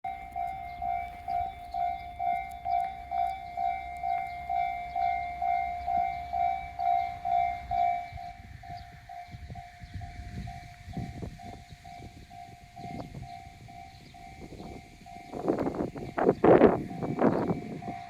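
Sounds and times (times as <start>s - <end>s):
level-crossing warning bell ringing: 0.1s - 18.0s.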